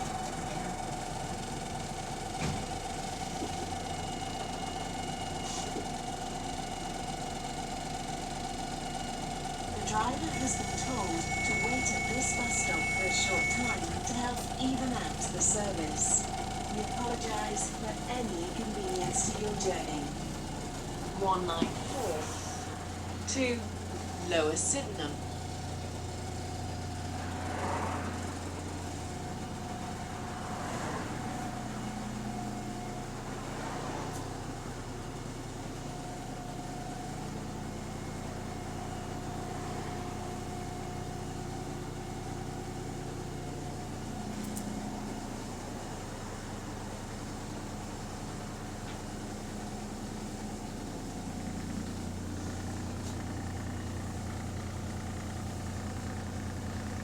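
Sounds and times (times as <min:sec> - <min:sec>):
bus diesel engine running: 0:00.0 - 0:57.0
steady high whine: 0:00.0 - 0:57.0.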